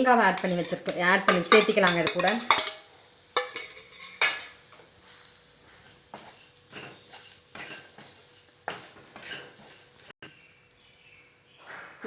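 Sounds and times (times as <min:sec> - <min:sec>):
spoon scraping a frying pan: 0:00.0 - 0:10.2.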